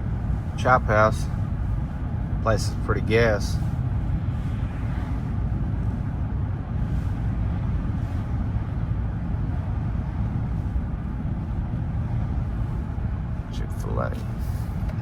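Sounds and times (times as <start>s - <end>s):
road noise: 0.0s - 15.0s
truck engine rumble: 0.0s - 15.0s.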